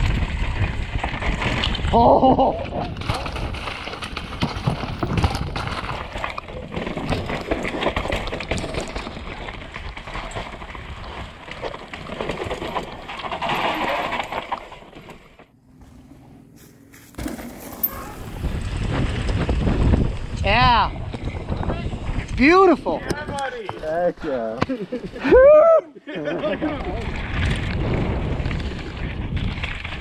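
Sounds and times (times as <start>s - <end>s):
knobby tyres rumbling over rock: 0.0s - 16.4s, 17.1s - 24.0s, 26.6s - 30.0s
bike rattling and clattering: 0.0s - 25.2s, 26.5s - 30.0s.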